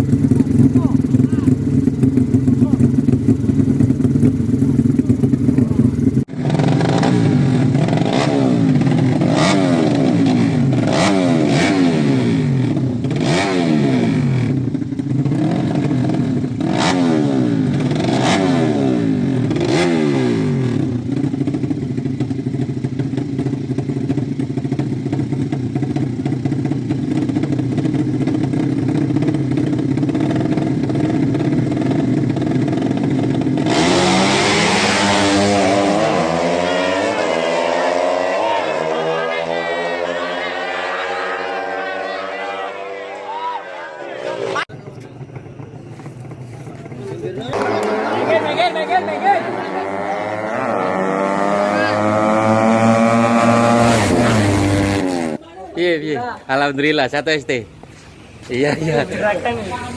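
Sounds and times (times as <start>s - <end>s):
loud engine accelerating: 0.0s - 55.4s
motorcycle engines revving: 0.0s - 59.9s.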